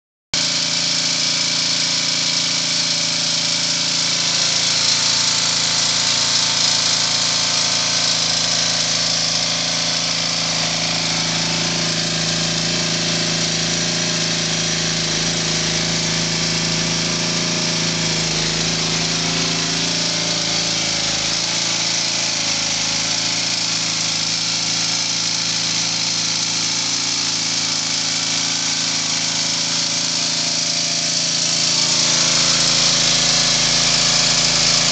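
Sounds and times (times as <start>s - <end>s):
lawnmower engine running: 0.4s - 34.9s.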